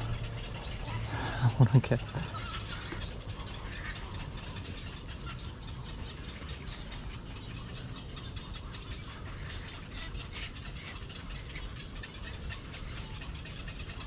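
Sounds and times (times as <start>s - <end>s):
flock of birds calling: 0.0s - 14.0s
low background rumble: 0.0s - 14.0s.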